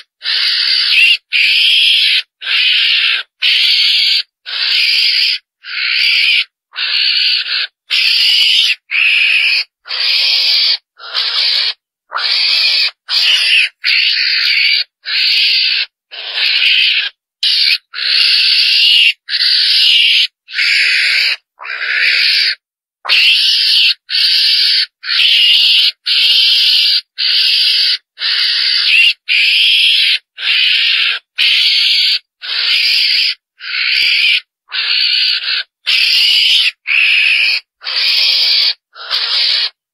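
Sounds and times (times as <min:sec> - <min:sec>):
high-pitched mongoose calls: 0:00.0 - 0:39.8.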